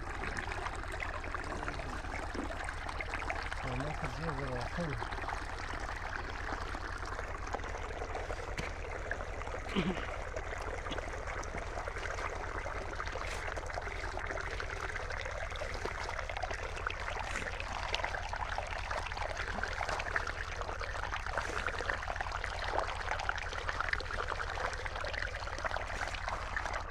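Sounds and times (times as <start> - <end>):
water trickling: 0.0 - 26.9.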